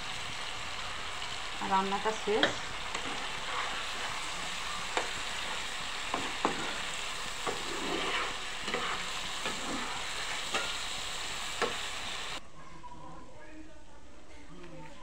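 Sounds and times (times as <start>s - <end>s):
curry bubbling and sizzling: 0.0s - 12.4s.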